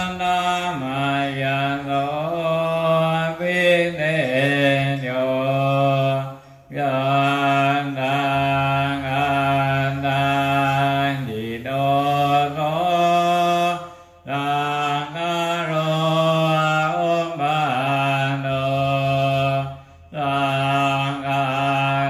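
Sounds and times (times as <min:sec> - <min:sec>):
person chanting: 0:00.0 - 0:22.0.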